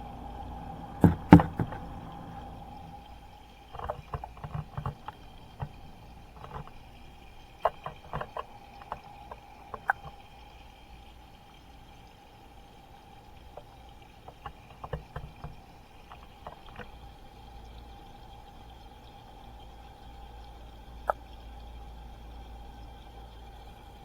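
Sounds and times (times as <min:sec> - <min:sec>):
tank hum: 0:00.0 - 0:24.0
water splashing in tank: 0:01.0 - 0:24.0.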